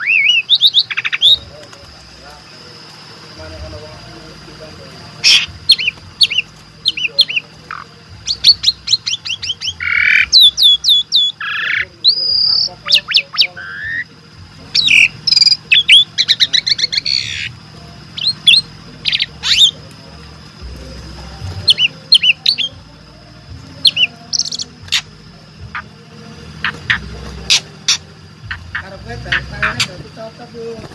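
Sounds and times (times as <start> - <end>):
starling singing whistles: 0.0 - 30.2.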